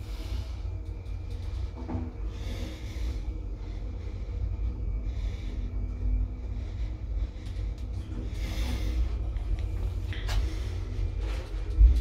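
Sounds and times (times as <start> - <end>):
elevator running rumble: 0.0 - 12.0
faint hum: 0.0 - 12.0.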